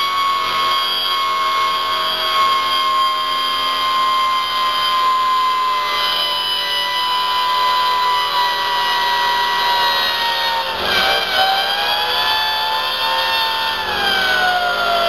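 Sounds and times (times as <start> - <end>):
high rotor whine: 0.0 - 15.0.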